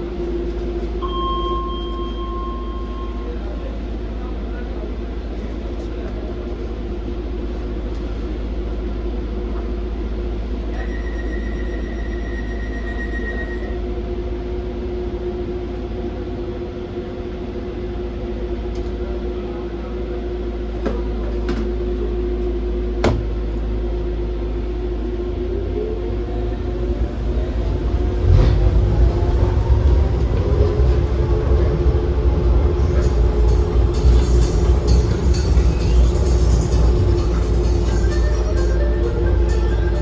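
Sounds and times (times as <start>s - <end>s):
train electrical hum: 0.0s - 40.0s.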